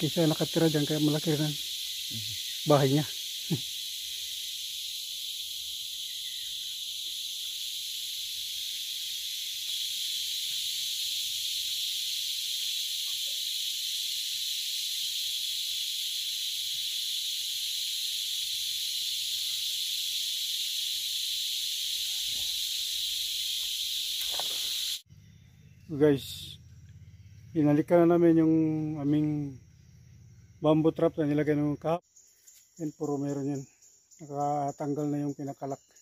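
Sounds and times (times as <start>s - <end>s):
hissing chorus of insects: 0.0s - 36.0s.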